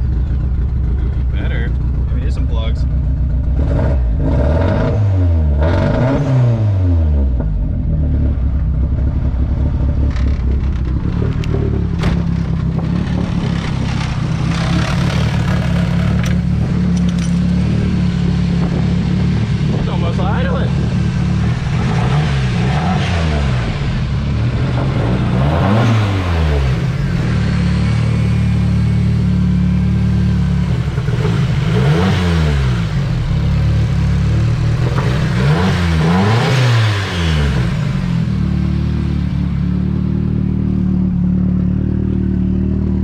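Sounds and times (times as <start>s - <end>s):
car engine misfiring and revving: 0.0s - 43.0s.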